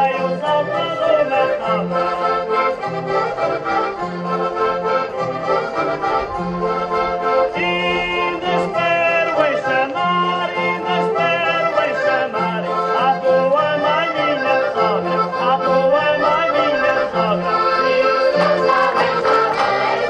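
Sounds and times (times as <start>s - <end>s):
folk dance music with accordion: 0.0s - 20.0s.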